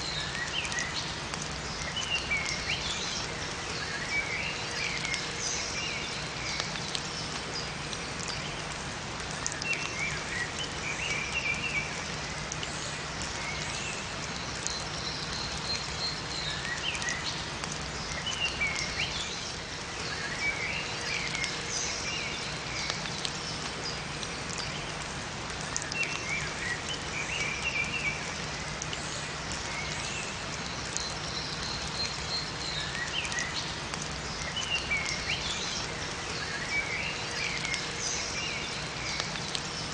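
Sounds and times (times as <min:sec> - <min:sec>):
songbirds chirping: 0:00.0 - 0:39.9
steady rain falling: 0:00.0 - 0:39.9.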